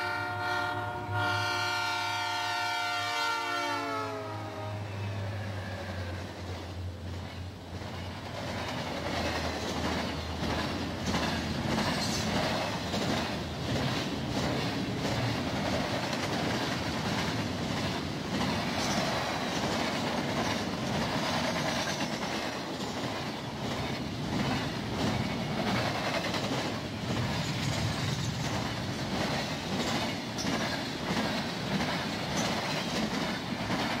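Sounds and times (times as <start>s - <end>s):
train wheels rumbling on rail: 0.0s - 34.0s
wheels clacking over rail joints: 6.2s - 34.0s.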